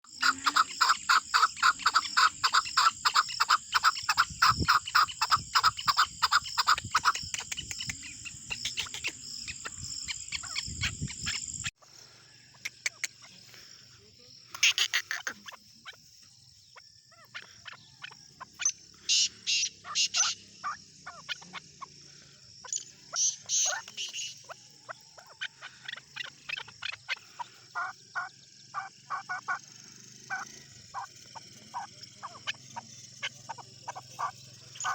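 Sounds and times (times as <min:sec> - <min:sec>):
partridge clucking calls: 0:00.0 - 0:11.7, 0:12.5 - 0:13.4, 0:14.5 - 0:16.1, 0:17.1 - 0:21.9, 0:22.6 - 0:34.9.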